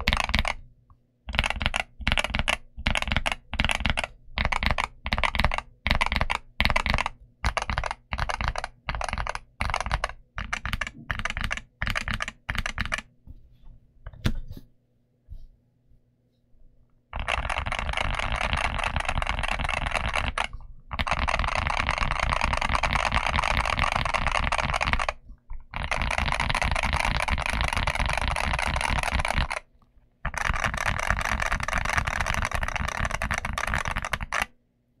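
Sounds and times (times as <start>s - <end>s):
fast typing on keyboard: 0.0s - 0.6s, 1.3s - 13.1s, 17.1s - 34.6s.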